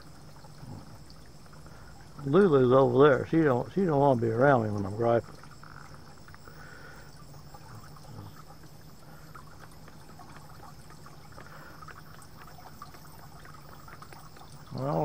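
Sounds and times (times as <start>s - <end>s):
garden fountain trickling: 0.0s - 15.0s.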